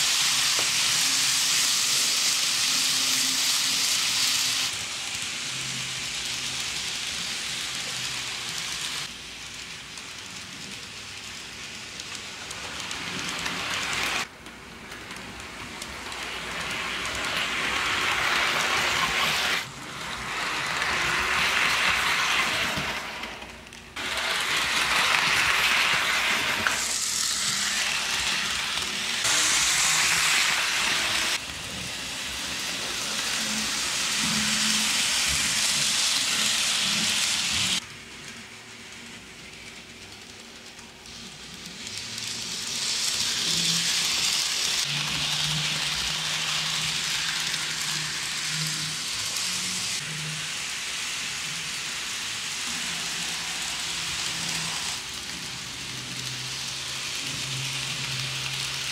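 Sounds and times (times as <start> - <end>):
model train wheels rattling: 6.2 - 58.9.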